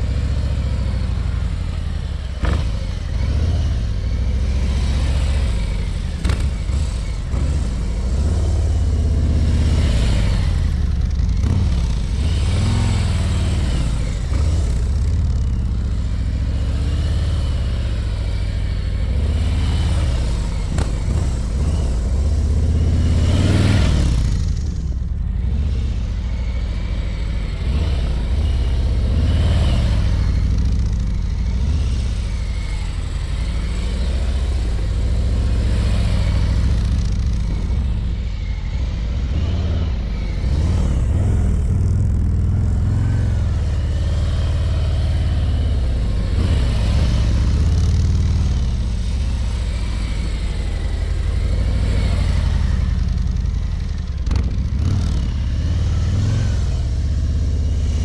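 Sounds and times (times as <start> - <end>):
motorcycle engine running slowly: 0.0 - 58.0.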